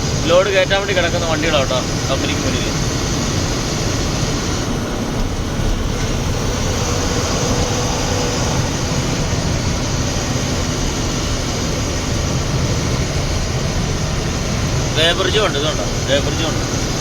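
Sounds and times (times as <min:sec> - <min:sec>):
lorry engine and road noise: 0:00.0 - 0:17.0.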